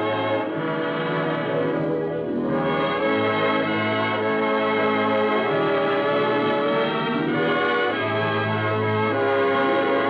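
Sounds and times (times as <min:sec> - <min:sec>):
orchestral brass chords: 0:00.0 - 0:10.0.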